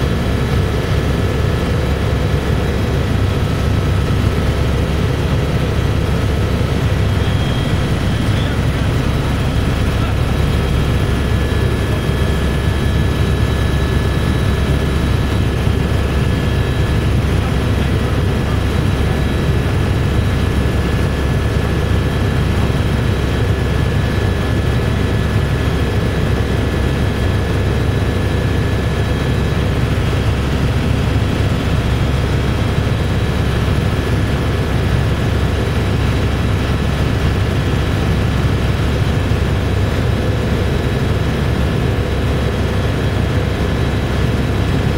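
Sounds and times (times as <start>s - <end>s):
helicopter rotor rumble: 0.0s - 44.9s
turbine engine whine: 0.0s - 44.9s.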